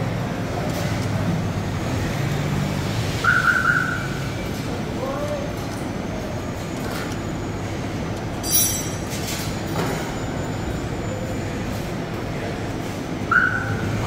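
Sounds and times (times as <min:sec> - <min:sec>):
busy car workshop noise: 0:00.0 - 0:14.0.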